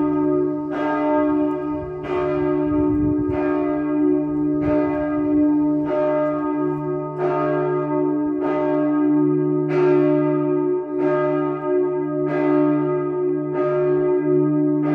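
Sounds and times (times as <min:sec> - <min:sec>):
church bell strokes: 0:00.0 - 0:14.9
hum of bells sounding together: 0:00.0 - 0:14.9.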